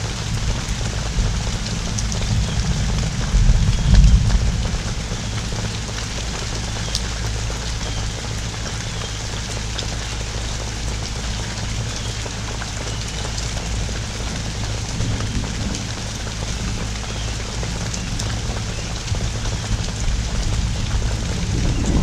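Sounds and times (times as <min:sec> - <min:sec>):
pouring rain: 0:00.0 - 0:22.0
raindrops ticking: 0:00.0 - 0:22.0
steady low rumble: 0:00.0 - 0:22.0.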